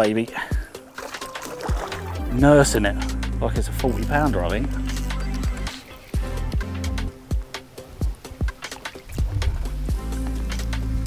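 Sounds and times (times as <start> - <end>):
background music with sustained tones: 0.0 - 11.0.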